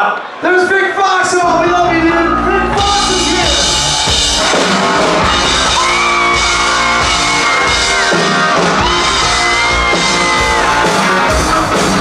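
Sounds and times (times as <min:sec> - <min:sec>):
long held high notes: 0:00.6 - 0:11.7
rock band playing: 0:00.6 - 0:12.0.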